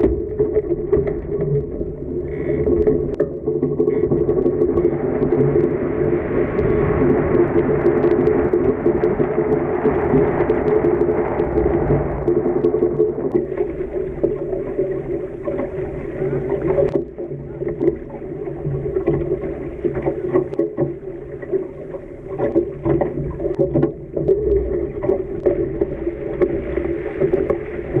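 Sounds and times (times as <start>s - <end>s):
muffled rush of wind and water: 0.0s - 28.0s.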